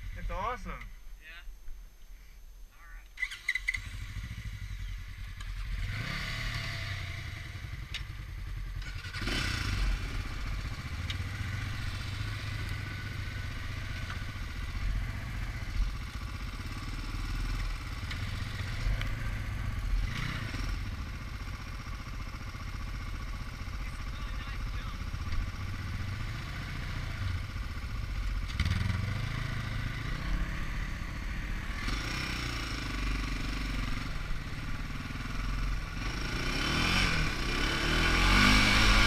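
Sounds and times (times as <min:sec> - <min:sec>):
atv engine revving: 0:03.2 - 0:39.0.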